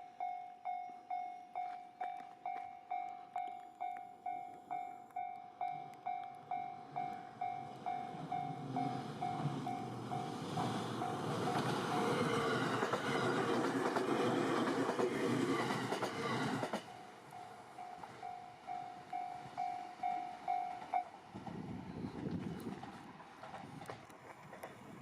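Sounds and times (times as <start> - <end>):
diesel train running noise: 1.6 - 25.0.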